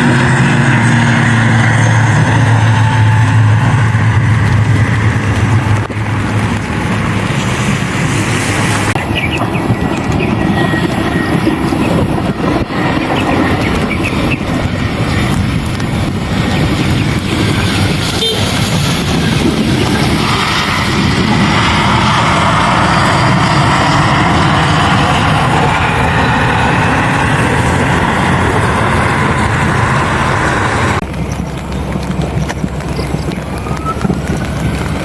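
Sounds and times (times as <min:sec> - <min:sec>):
airliner engine noise: 0:00.0 - 0:35.0
wind noise: 0:00.0 - 0:35.0.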